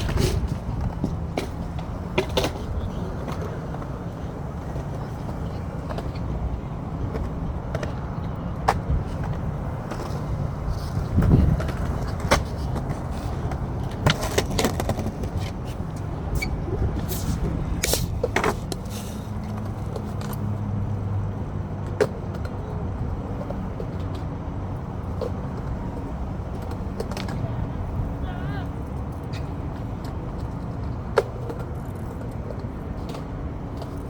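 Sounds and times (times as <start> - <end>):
skateboard clacks: 0.0 - 34.0
skateboard wheels rolling on concrete: 0.0 - 34.0.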